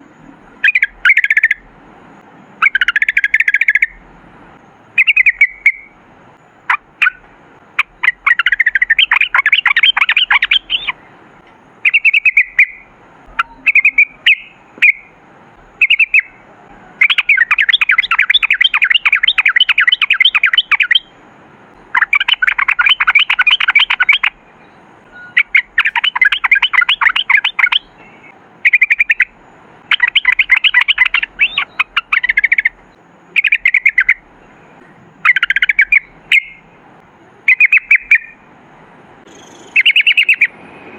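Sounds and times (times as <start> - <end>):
bird singing trills: 0.0 - 1.7, 2.6 - 4.0, 4.9 - 11.2, 11.8 - 21.2, 21.8 - 36.8, 37.5 - 38.4, 39.2 - 40.5.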